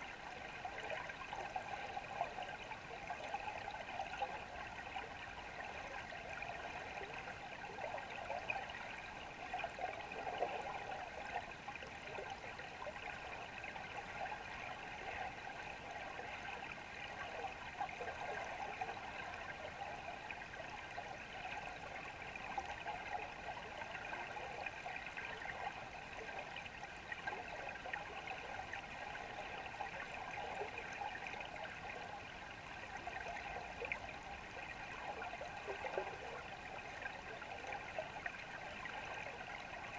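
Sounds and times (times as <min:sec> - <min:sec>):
river water flowing underwater: 0:00.0 - 0:39.9.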